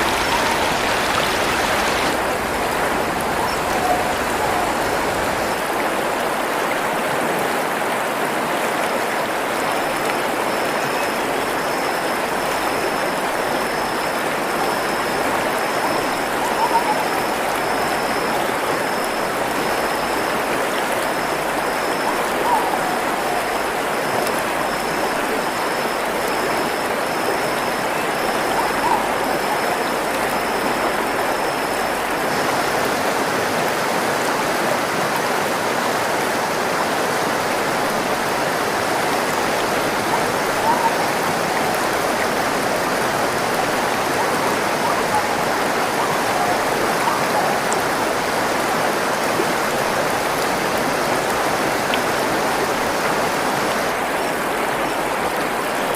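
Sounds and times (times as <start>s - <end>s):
stream rushing: 0.0s - 55.9s.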